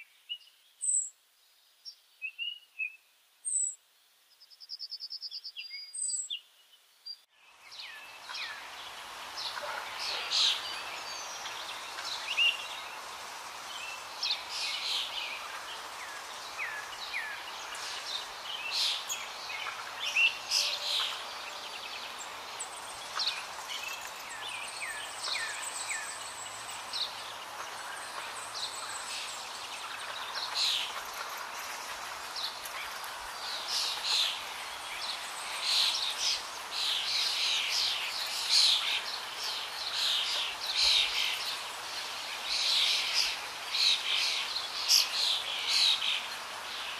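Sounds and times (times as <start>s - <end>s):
outdoor ambient hiss: 0.0s - 46.9s
many birds chirping: 4.4s - 46.9s.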